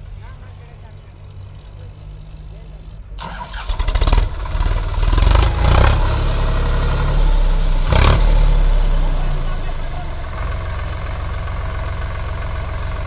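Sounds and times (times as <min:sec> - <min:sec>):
tractor engine under load: 0:00.0 - 0:13.0.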